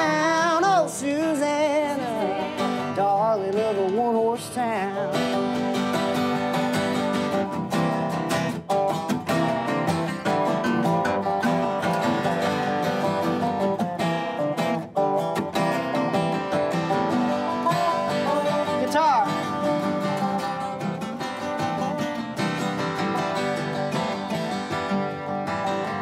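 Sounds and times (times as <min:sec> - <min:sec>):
acoustic guitars strumming: 0:00.0 - 0:26.0.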